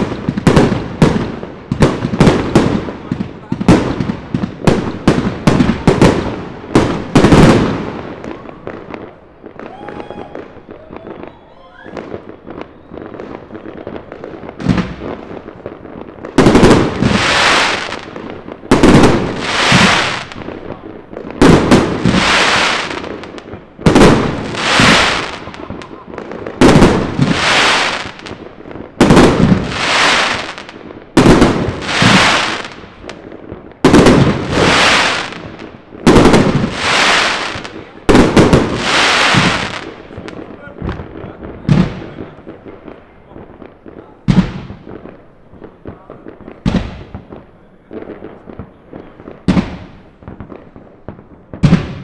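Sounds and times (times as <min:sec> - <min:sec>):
fireworks banging and crackling: 0:00.0 - 0:52.0.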